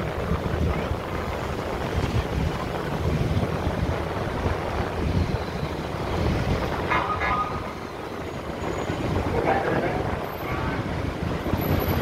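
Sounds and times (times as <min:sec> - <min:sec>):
road traffic rumble: 0:00.0 - 0:12.0
wind buffeting microphone: 0:00.0 - 0:12.0.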